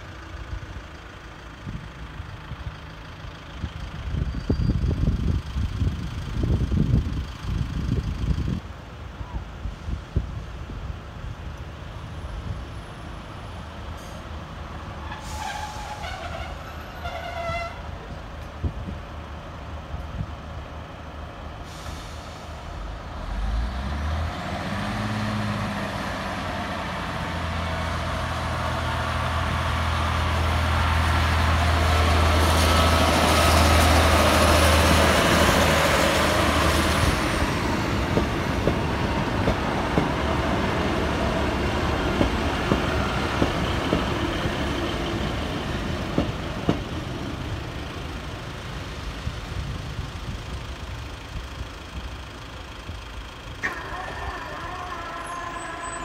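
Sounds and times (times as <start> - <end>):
diesel railcar passing: 0.0 - 56.0.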